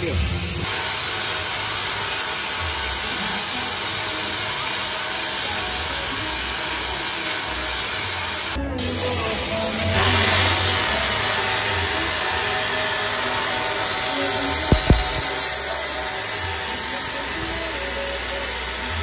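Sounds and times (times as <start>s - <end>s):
tesla coil arc buzzing: 0.0s - 19.0s.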